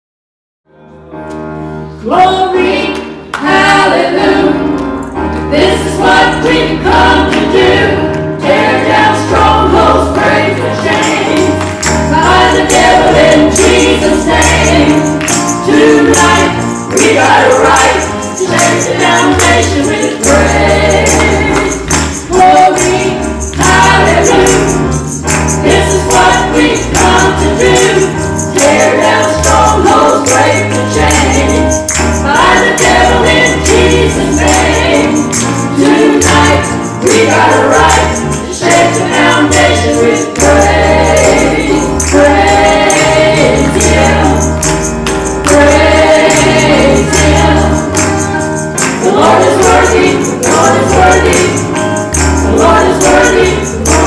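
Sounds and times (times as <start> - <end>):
women singing gospel song: 2.0 - 44.7, 45.4 - 54.0
tambourine-like percussion: 4.9 - 54.0.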